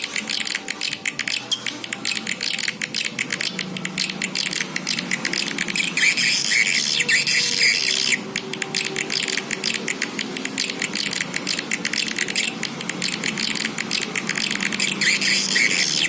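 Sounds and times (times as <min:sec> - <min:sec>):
swiftlet clicks and twitters: 0:00.0 - 0:16.0.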